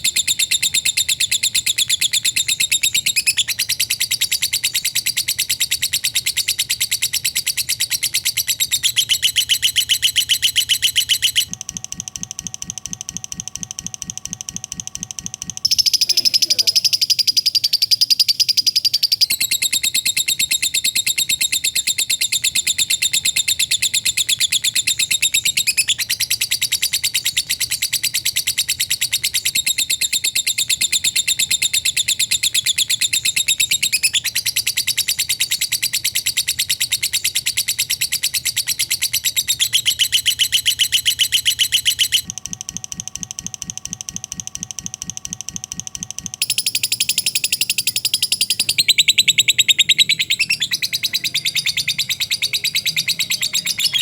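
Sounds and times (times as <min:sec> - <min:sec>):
lovebird chattering trill: 0:00.0 - 0:11.5, 0:14.5 - 0:42.3, 0:46.4 - 0:54.0.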